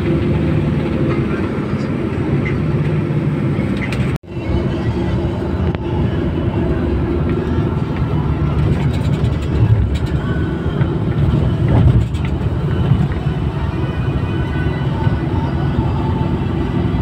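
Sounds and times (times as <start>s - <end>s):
road and engine noise in car cabin: 0.0s - 17.0s.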